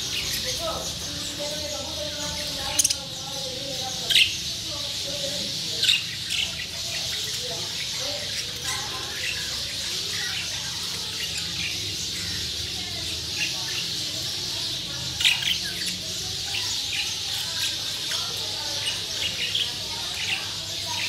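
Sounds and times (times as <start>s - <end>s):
budgerigars chattering and chirping: 0.0s - 21.0s.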